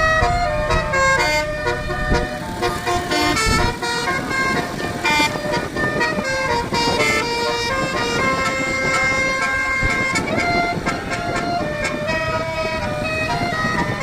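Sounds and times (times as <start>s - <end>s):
bus engine noise: 0.0s - 14.0s
bus horn playing a tune: 0.0s - 14.0s.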